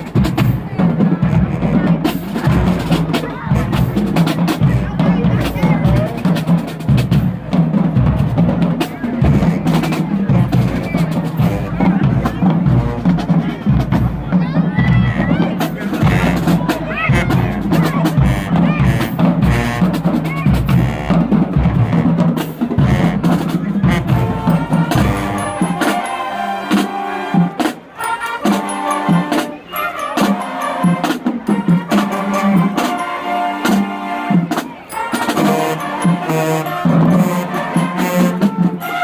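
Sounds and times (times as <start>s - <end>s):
marching band playing: 0.0s - 39.0s.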